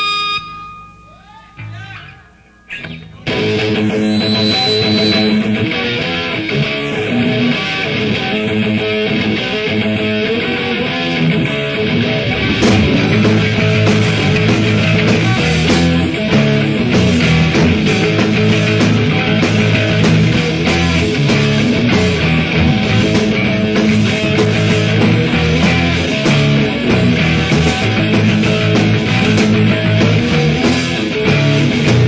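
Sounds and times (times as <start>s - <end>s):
drums: 0.0s - 32.0s
electric guitar: 1.6s - 32.0s.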